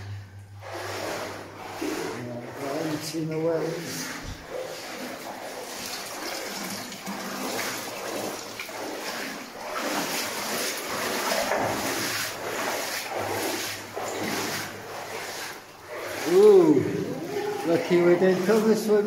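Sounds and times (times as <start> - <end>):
people wading through water: 0.0 - 19.0.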